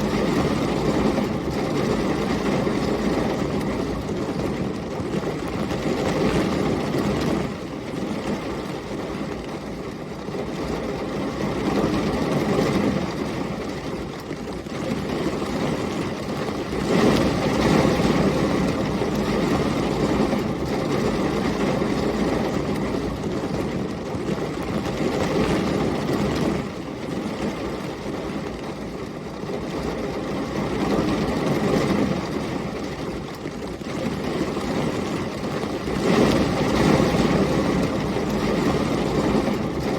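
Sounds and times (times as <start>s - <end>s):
heavy rain: 0.0s - 39.9s
storm wind: 0.0s - 39.9s.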